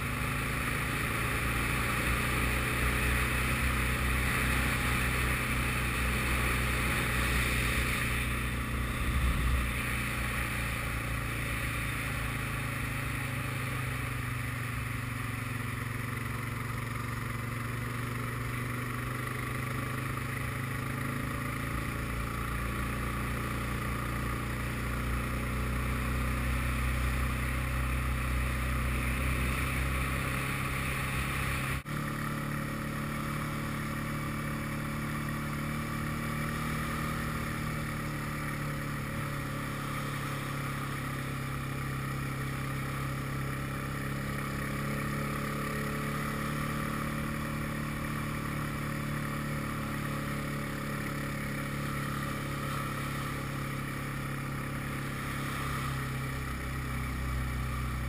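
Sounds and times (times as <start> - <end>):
constant rushing noise: 0.0 - 58.0
quad bike engine running: 0.0 - 58.0.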